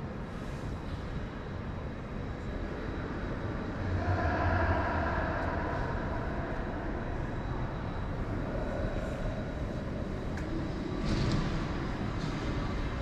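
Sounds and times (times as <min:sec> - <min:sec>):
hum with steady tones: 0:00.0 - 0:13.0
low rumbling hall ambience: 0:00.0 - 0:13.0.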